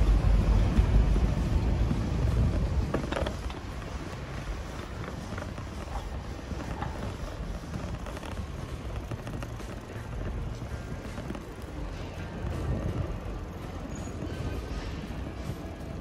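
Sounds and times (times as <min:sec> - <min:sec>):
street background noise: 0:00.0 - 0:16.0
wind buffeting microphone: 0:00.0 - 0:16.0.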